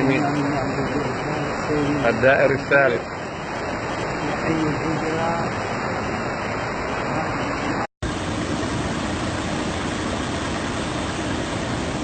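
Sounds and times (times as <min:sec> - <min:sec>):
floodwater rushing: 0:00.0 - 0:12.0
heavy rain: 0:00.0 - 0:12.0.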